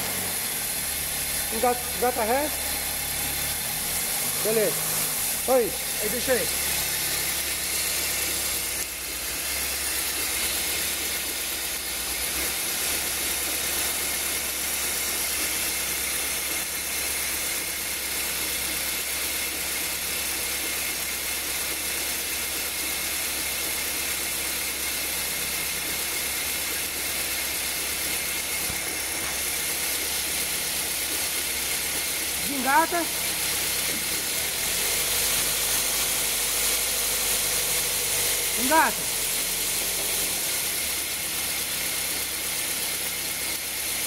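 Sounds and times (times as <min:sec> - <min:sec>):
car engine idling: 0:00.0 - 0:18.5, 0:23.1 - 0:43.6.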